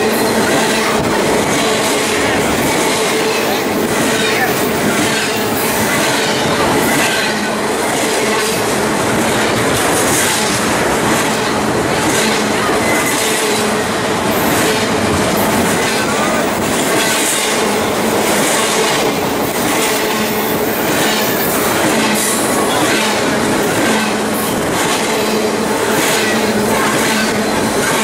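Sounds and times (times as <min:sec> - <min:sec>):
freight train passing: 0:00.0 - 0:28.0.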